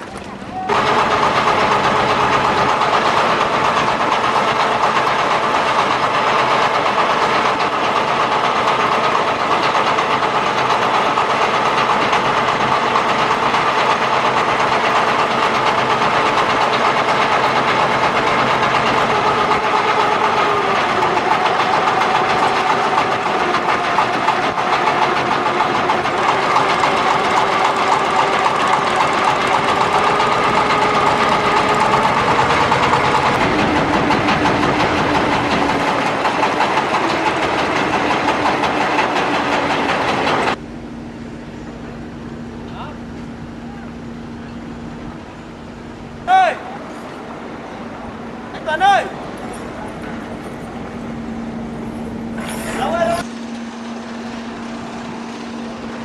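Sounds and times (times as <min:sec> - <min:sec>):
large engine droning: 0:00.0 - 0:56.0.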